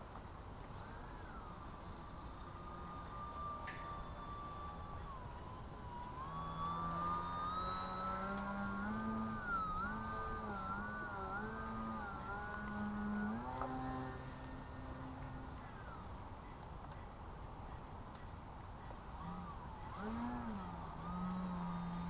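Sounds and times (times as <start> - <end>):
electric plane motor and propeller whining: 0.0 - 22.0.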